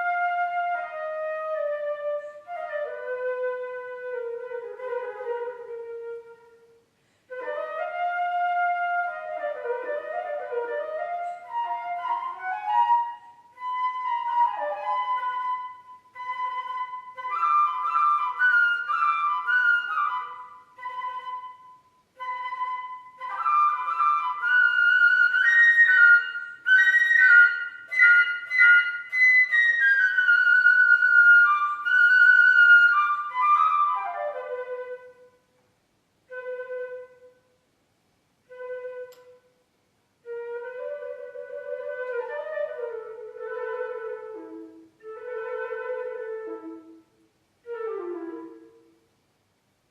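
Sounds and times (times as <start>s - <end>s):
solo flute melody: 0.0s - 35.6s, 36.2s - 37.6s, 38.4s - 49.1s.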